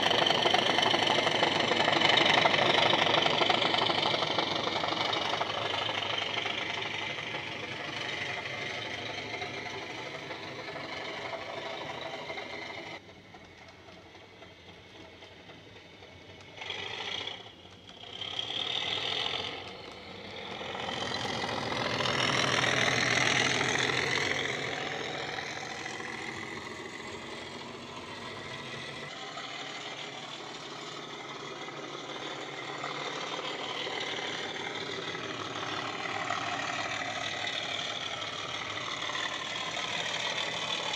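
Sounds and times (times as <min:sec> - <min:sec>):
diesel engine from small speaker: 0:00.0 - 0:40.9.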